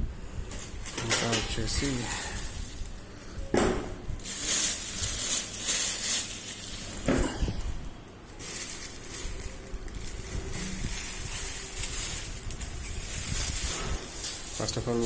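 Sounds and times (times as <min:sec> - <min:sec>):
packaging rustling and crinkling: 0:00.4 - 0:03.4, 0:04.1 - 0:15.0.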